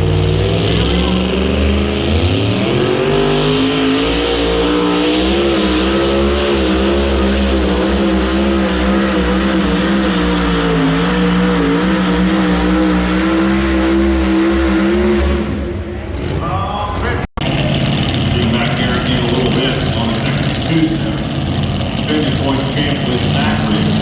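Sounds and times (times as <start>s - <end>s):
pulling engine at high revs: 0.0s - 24.0s.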